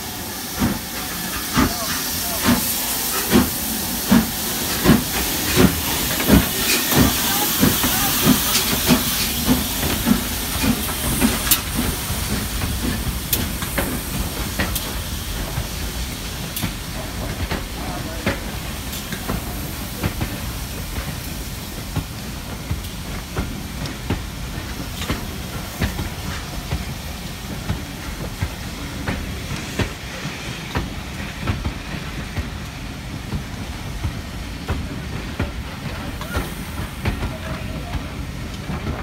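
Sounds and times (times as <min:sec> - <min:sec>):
steam hissing: 0:00.0 - 0:39.0
steam locomotive exhaust beats: 0:00.0 - 0:39.0.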